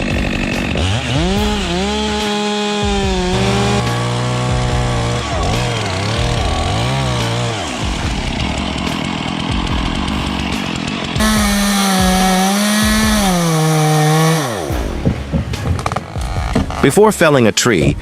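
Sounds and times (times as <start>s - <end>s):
chainsaw cutting into tree: 0.0s - 16.9s.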